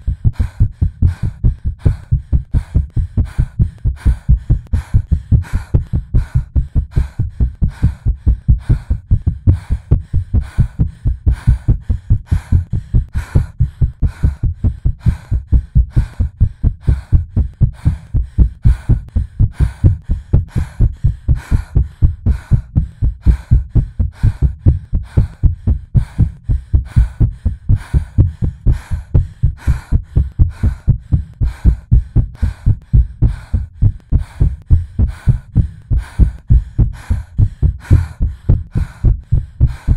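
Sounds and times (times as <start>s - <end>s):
racing heartbeat thuds: 0.0s - 39.9s.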